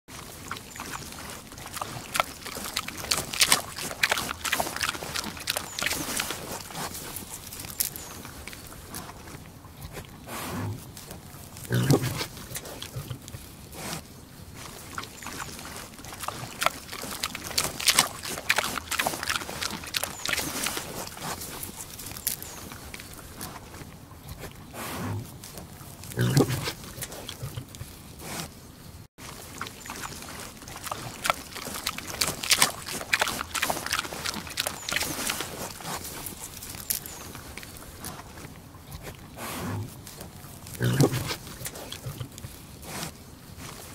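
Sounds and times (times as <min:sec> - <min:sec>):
pig chewing and smacking: 0:00.1 - 0:28.6, 0:29.2 - 0:43.9.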